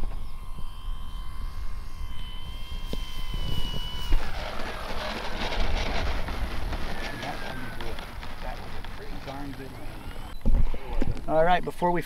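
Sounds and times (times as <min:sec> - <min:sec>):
model plane motor whine: 0:00.0 - 0:11.3
wind rumbling on microphone: 0:00.0 - 0:11.4.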